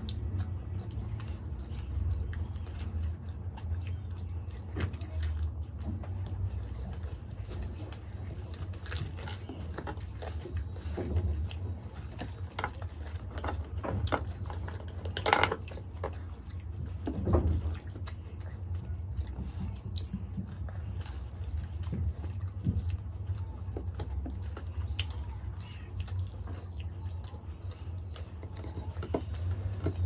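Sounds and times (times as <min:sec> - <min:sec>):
chewing and wet mouth sounds: 0:00.0 - 0:30.0.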